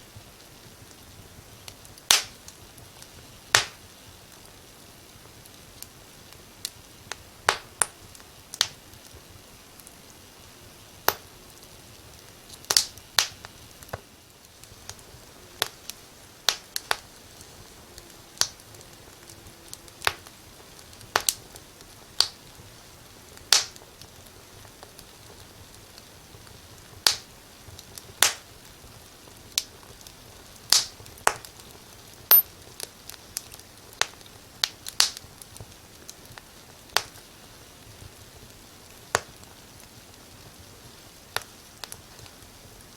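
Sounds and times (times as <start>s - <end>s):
low fire hiss: 0.0s - 42.9s
fire popping: 0.1s - 17.8s, 19.8s - 42.9s.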